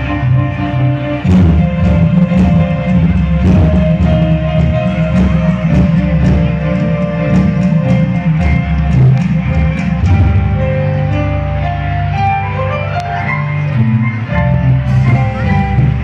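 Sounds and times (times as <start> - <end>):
loud guitar and drum music: 0.0 - 16.0.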